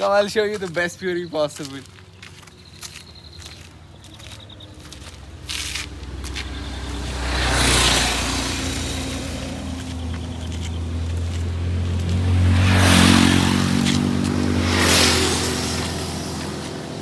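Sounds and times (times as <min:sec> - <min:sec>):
passing traffic: 0:00.0 - 0:17.0
vehicle engine humming: 0:00.0 - 0:17.0.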